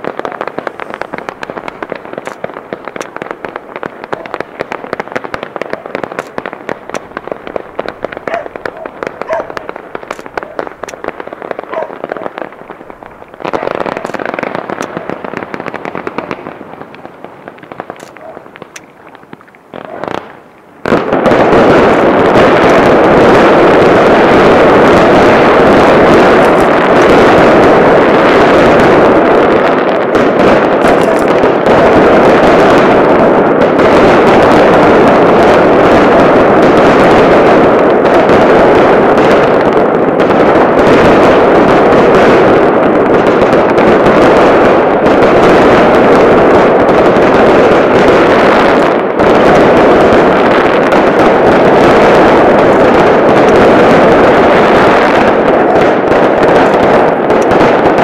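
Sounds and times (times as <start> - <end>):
fireworks bursts and crackle: 0.0 - 58.0.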